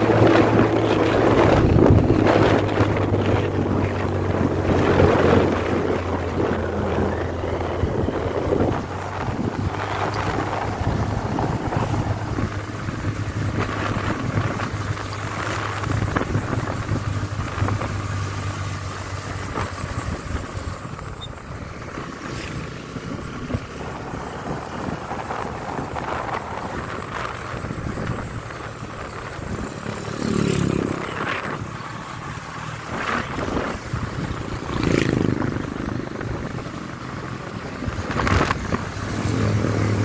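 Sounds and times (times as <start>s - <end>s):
motorcycle engine running: 0.0s - 40.0s
wind noise on microphone: 0.0s - 40.0s.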